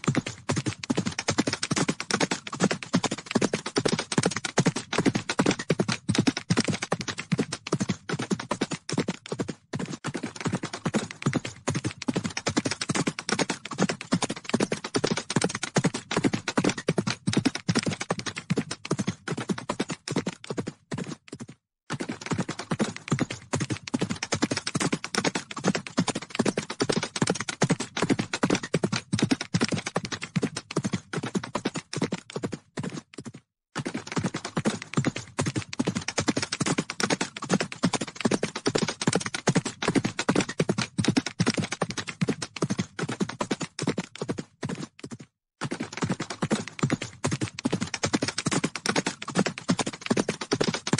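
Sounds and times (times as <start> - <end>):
horses hooves galloping: 0.0 - 50.9.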